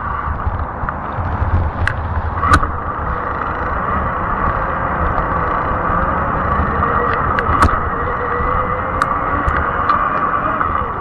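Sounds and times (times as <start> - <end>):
bike tire rumble on pavement: 0.0 - 11.0
faint motor whine: 0.0 - 11.0.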